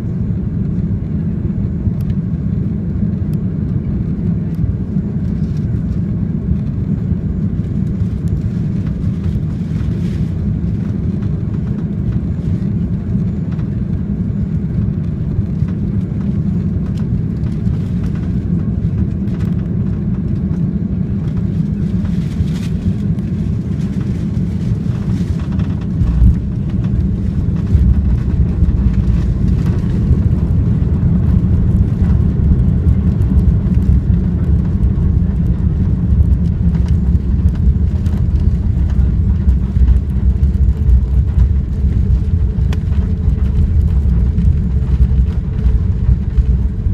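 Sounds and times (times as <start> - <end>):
airliner cabin engine rumble: 0.0 - 46.9
wheels rolling on runway rumble: 0.8 - 46.9.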